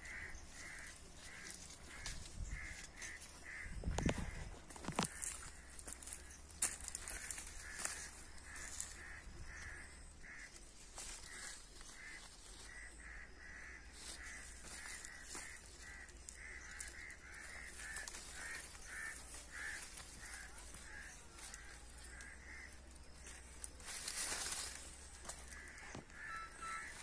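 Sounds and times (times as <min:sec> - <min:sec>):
bird calling: 0:00.0 - 0:27.0
leaves rustling: 0:00.0 - 0:27.0.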